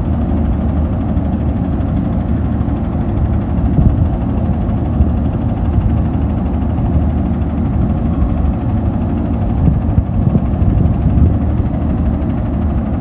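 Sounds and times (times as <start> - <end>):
garbage truck engine rumbling: 0.0 - 13.0.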